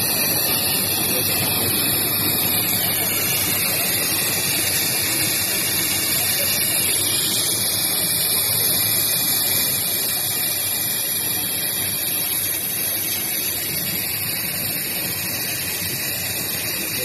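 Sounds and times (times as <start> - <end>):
laser marking machine hissing: 0.0 - 17.0.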